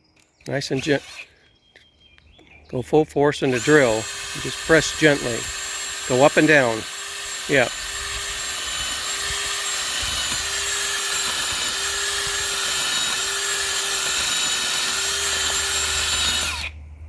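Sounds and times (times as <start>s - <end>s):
auger boring into soil: 0.0s - 1.4s, 3.4s - 16.8s
power drill whining: 0.1s - 1.4s, 3.4s - 16.8s.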